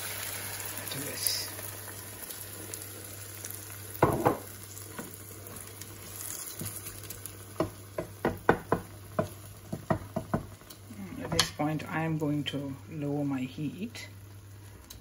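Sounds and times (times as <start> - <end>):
egg sizzling in a pan: 0.0 - 15.0.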